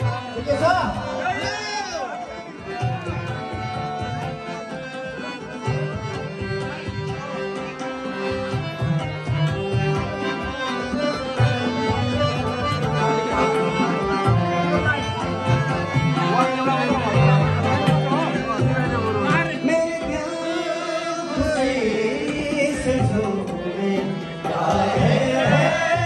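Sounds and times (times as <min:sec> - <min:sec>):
harmonium melody: 0:00.0 - 0:26.0
tabla drums: 0:00.0 - 0:26.0.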